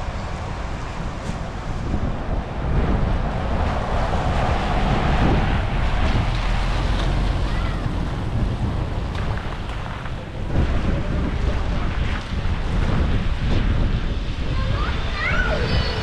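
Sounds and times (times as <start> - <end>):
storm wind gusting on microphone: 0.0 - 16.0.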